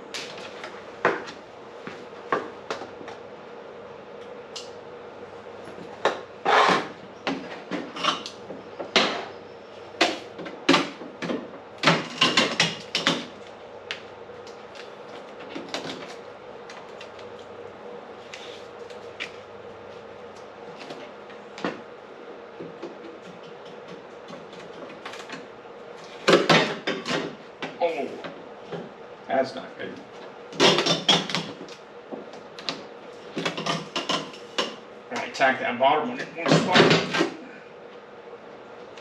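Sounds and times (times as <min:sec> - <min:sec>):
faint hum: 0:00.0 - 0:39.0.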